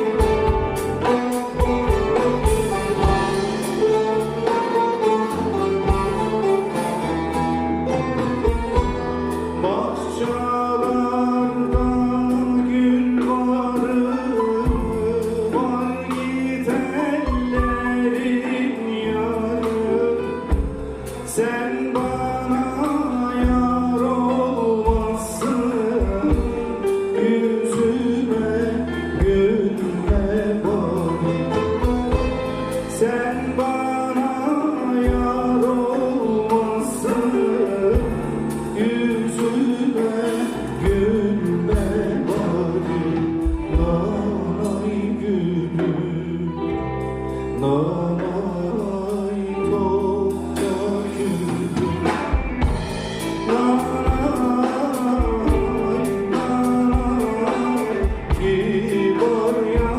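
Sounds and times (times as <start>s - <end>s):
folk song singing with instruments: 0.0s - 59.9s.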